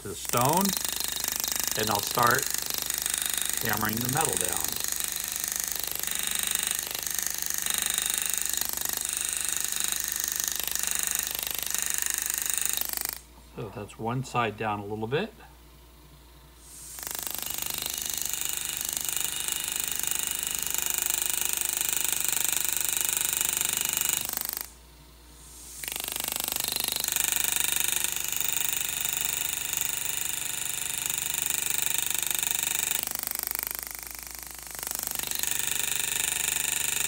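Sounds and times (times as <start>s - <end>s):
pneumatic handpiece hammering: 0.1s - 13.2s, 16.8s - 24.7s, 25.6s - 37.0s.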